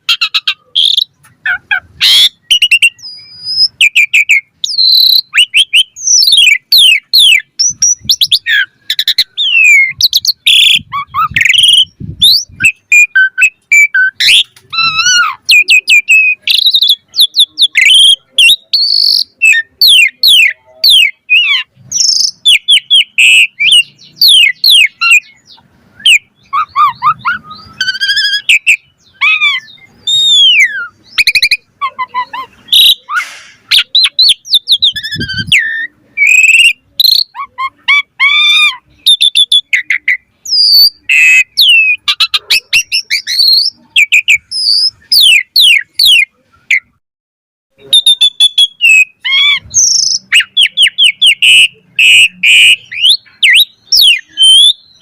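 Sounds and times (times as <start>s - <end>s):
starling singing: 0.0s - 47.0s, 47.7s - 55.0s.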